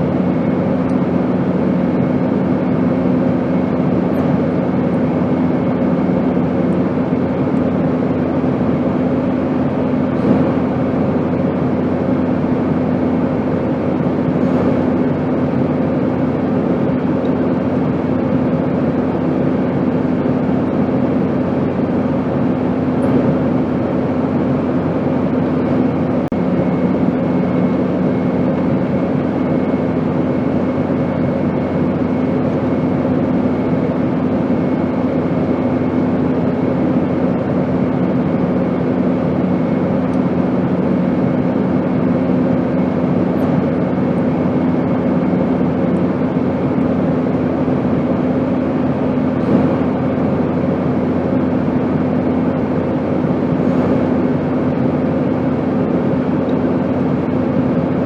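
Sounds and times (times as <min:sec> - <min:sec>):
airplane in flight drone: 0:00.0 - 0:58.0.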